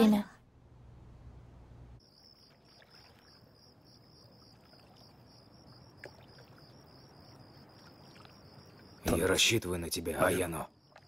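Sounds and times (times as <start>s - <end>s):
crickets chirping: 2.0s - 11.0s.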